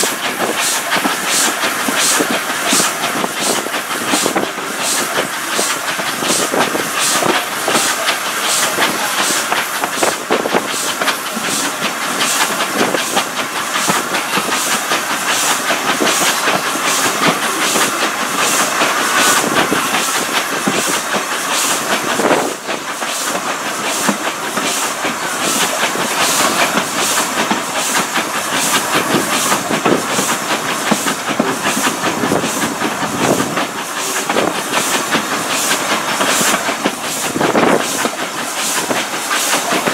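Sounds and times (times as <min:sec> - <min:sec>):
carriage wheels clattering on track: 0:00.0 - 0:39.9
steam locomotive exhaust beats: 0:00.0 - 0:39.9.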